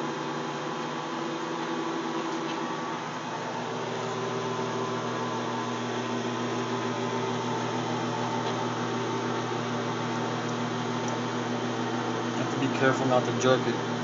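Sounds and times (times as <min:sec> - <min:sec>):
metal lathe humming: 0:00.0 - 0:14.0.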